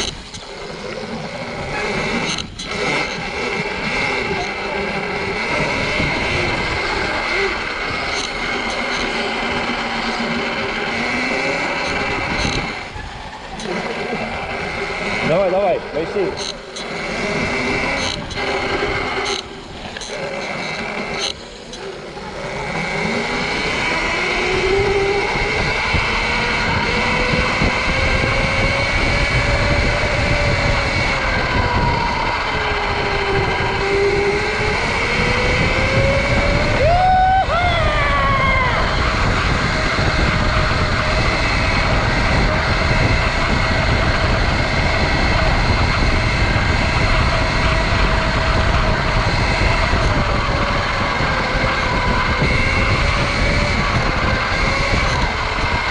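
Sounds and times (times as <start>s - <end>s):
electric dirt bike motor whining: 0.0s - 55.9s
steady rushing noise: 0.0s - 55.9s.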